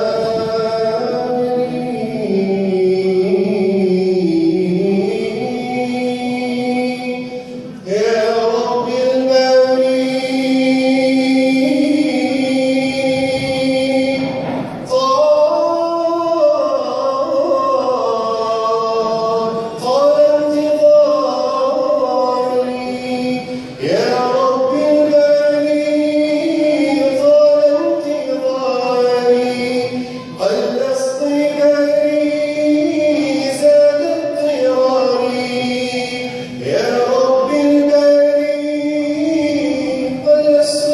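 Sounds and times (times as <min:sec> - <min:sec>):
choir backing voices: 0:00.0 - 0:40.9
man singing: 0:00.0 - 0:40.9.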